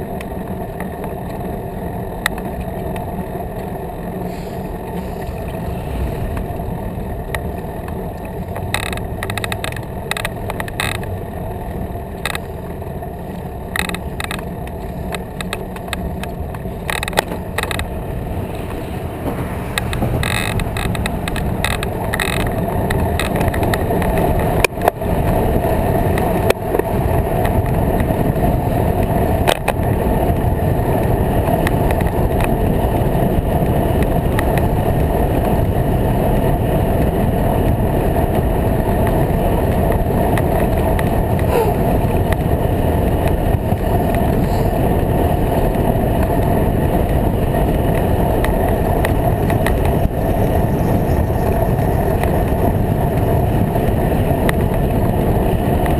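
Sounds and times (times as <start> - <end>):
bicycle rolling on wooden planks: 0.0 - 55.9.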